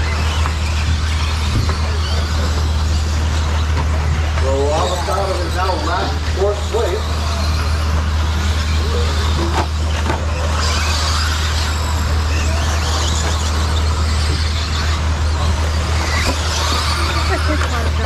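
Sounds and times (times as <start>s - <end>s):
low drone: 0.0s - 18.0s
rc truck motors whining: 0.0s - 18.0s.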